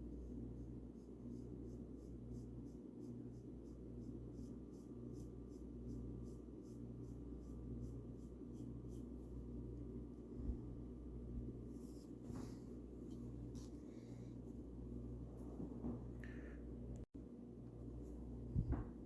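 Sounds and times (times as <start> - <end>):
paintbrush strokes: 0.0 - 15.8, 17.7 - 19.0
low steady hum: 0.0 - 19.0.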